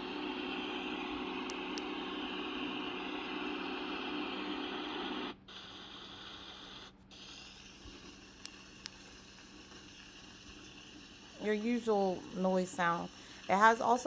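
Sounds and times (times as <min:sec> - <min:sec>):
white noise machine hiss: 0:00.0 - 0:14.0.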